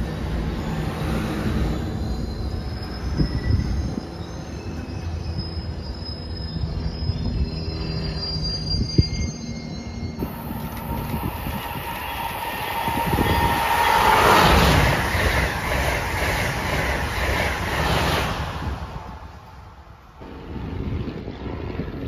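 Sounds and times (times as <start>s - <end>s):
train rumble: 0.0s - 22.0s
train wheel squeal: 0.0s - 22.0s.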